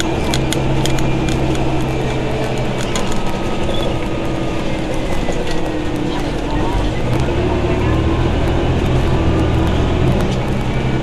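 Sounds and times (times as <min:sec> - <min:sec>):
bodywork rattling ticks: 0:00.0 - 0:11.0
bus engine and fan drone: 0:00.0 - 0:11.0.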